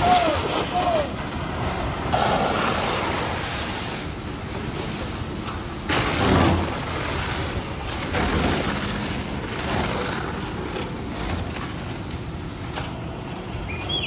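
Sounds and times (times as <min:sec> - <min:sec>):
fire hose spraying water: 0:00.0 - 0:13.6.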